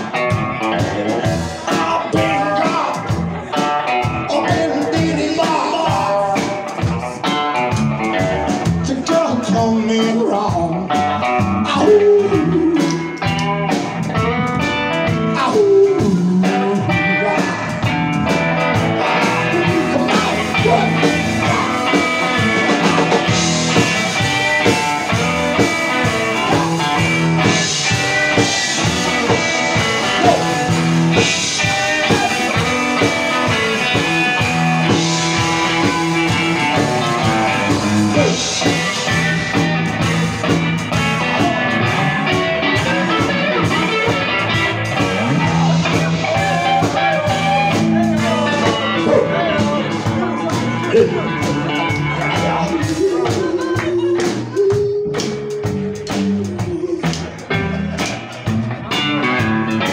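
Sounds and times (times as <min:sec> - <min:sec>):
blues-rock band playing: 0:00.0 - 0:59.9
drums: 0:00.0 - 0:59.9
electric guitar: 0:00.0 - 0:59.9
upright bass: 0:00.0 - 0:59.9.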